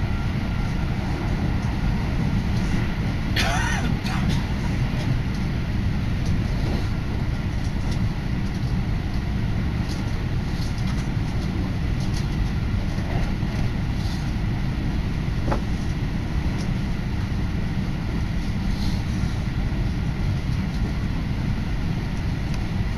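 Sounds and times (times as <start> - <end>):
train carriage rumbling: 0.0 - 22.9.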